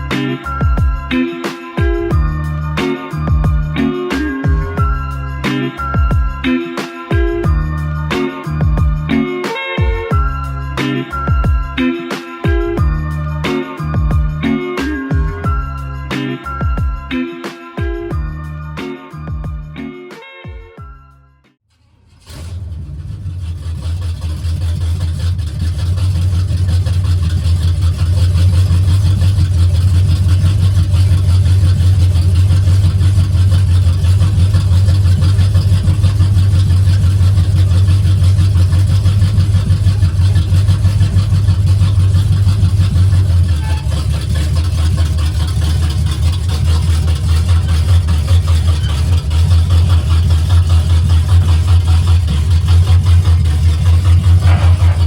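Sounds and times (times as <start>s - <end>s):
loud engine rumble: 0.0s - 20.0s, 21.7s - 55.0s.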